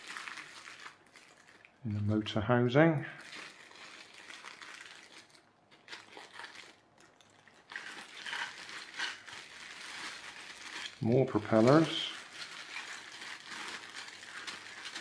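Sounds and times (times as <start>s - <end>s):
plastic bag crinkling: 0.0s - 2.1s, 3.0s - 15.0s.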